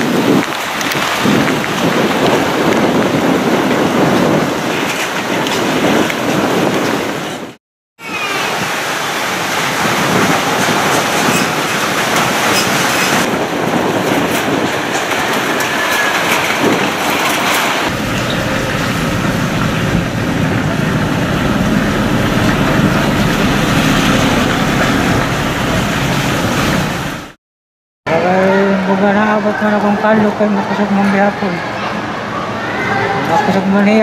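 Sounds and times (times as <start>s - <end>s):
roaring wind and rain: 0.0s - 27.4s.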